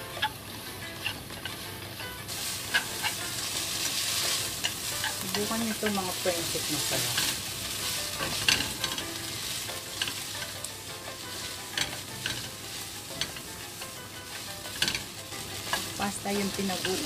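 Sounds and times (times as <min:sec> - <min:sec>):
pasta sizzling in wok: 0:00.0 - 0:17.0
utensils clacking and scraping pan: 0:00.0 - 0:17.0.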